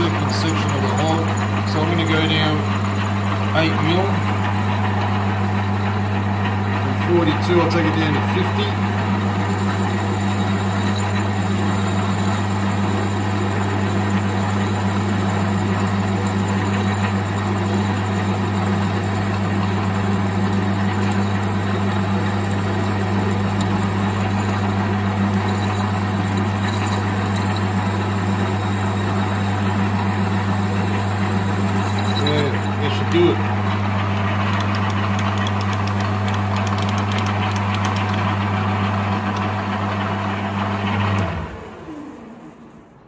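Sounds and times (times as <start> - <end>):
drill bit drilling workpiece: 0.0 - 42.4
lathe humming: 0.0 - 42.9.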